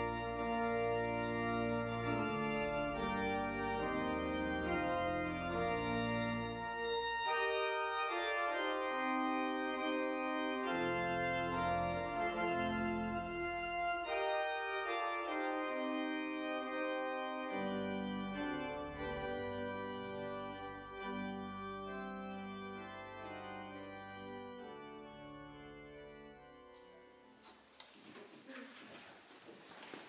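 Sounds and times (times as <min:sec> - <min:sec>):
organ playing sustained chords: 0:00.0 - 0:27.4.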